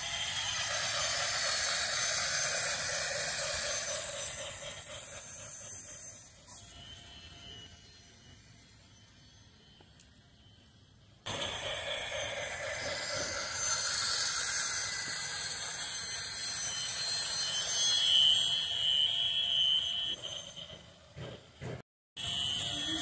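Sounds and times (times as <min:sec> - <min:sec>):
toy train steam hiss effect: 0:00.0 - 0:09.2, 0:11.3 - 0:21.0, 0:22.2 - 0:23.0.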